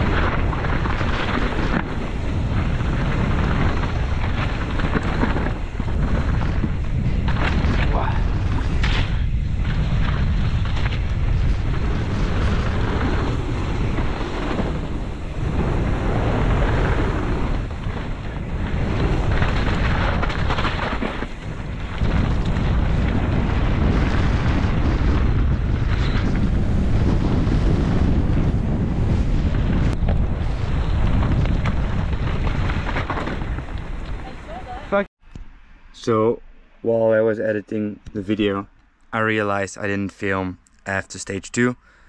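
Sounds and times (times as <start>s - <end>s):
mountain bike rattling: 0.0s - 34.8s
wind buffeting microphone: 0.0s - 35.1s.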